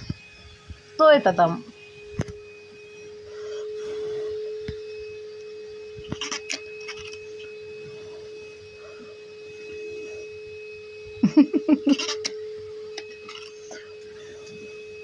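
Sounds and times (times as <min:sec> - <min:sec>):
electric hum: 0:00.0 - 0:15.0.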